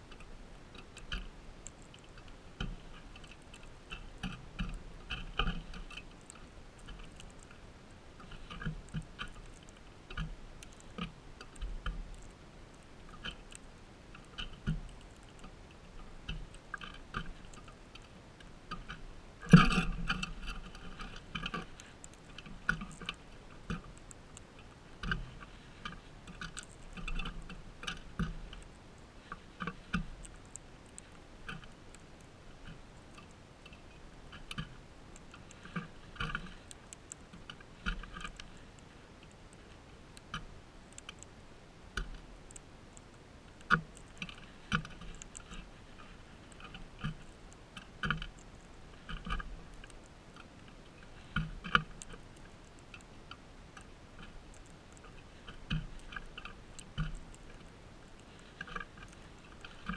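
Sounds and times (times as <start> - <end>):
birds cracking seeds: 0.0 - 59.9.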